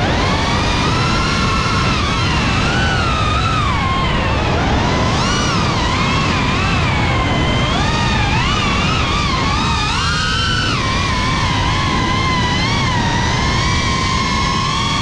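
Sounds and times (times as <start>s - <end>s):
drone motors whining: 0.0s - 15.0s
steady rushing noise: 0.0s - 15.0s.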